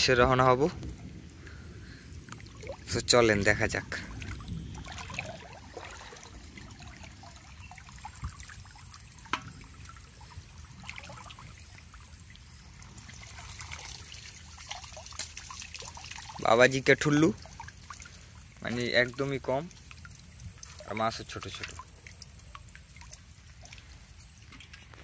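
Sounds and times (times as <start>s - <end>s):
shallow water trickling and sloshing: 0.0s - 25.0s
water streaming off trap: 1.4s - 24.8s.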